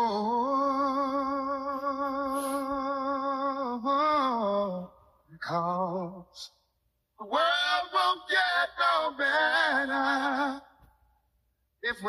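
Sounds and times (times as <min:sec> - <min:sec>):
solo voice singing wordlessly: 0:00.0 - 0:06.6, 0:07.2 - 0:10.8.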